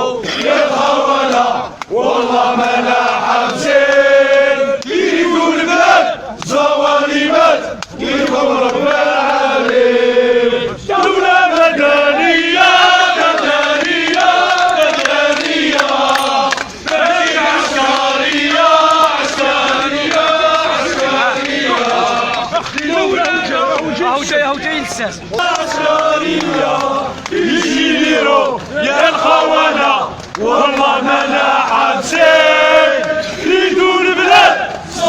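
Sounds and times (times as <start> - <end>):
crowd of men chanting: 0.0 - 35.0.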